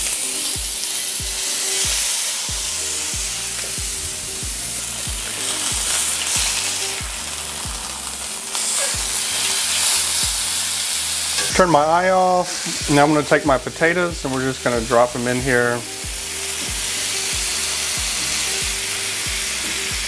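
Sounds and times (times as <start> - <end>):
background music with steady beat: 0.0 - 20.0
chicken sizzling in oil: 0.0 - 20.0.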